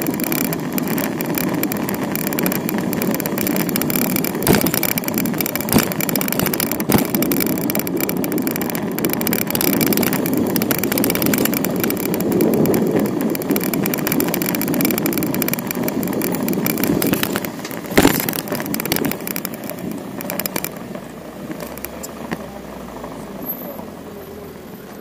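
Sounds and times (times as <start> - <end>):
fast rattle of clicks: 0.0 - 20.9, 21.5 - 22.2
bicycle tyre and road noise: 0.0 - 25.0.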